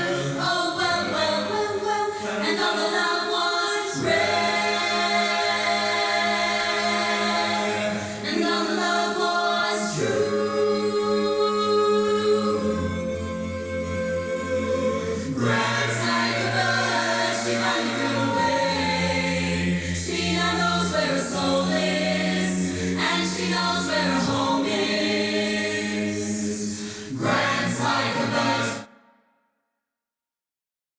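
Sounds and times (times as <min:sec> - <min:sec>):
choir singing held chords: 0:00.0 - 0:29.0.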